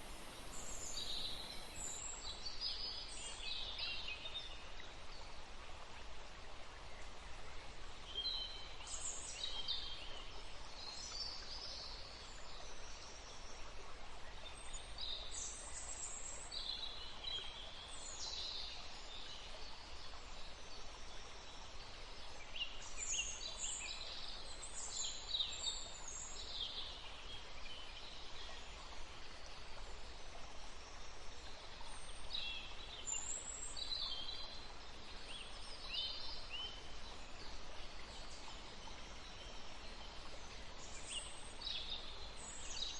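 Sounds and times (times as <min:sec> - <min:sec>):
forest ambience hiss: 0:00.0 - 0:42.9.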